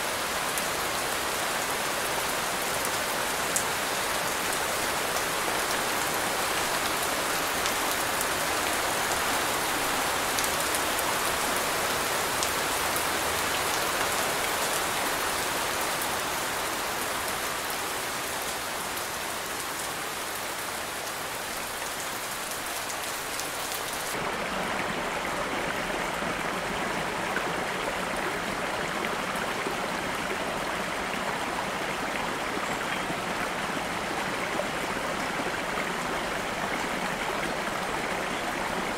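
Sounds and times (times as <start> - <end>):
low rushing of water: 0.0 - 38.9
steady rain falling: 0.0 - 38.9.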